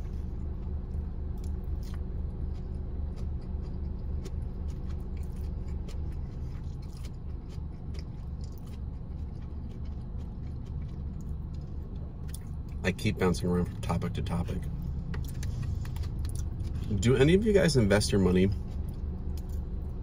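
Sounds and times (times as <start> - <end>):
person chewing noodles: 0.0 - 17.4, 18.0 - 20.0
low hum in car: 0.0 - 20.0.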